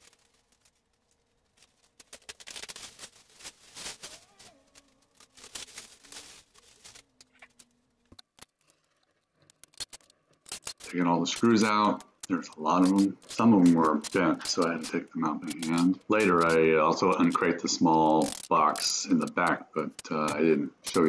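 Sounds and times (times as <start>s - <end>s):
footsteps: 0.0s - 17.4s.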